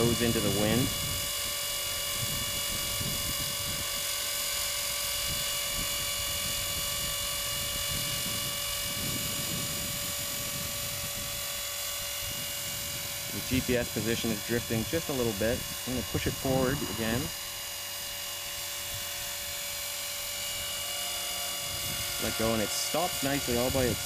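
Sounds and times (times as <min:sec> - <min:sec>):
rc helicopter hovering whine: 0:00.0 - 0:24.0.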